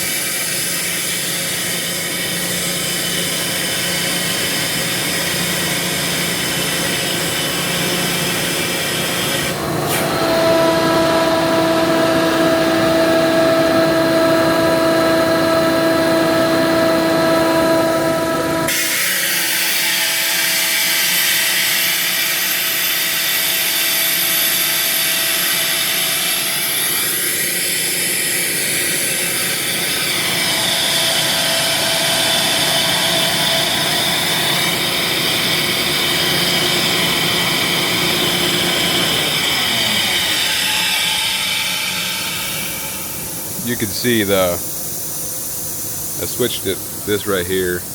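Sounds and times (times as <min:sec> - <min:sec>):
air compressor running: 0:00.0 - 0:47.9
steady whine: 0:02.0 - 0:19.2, 0:25.9 - 0:47.9.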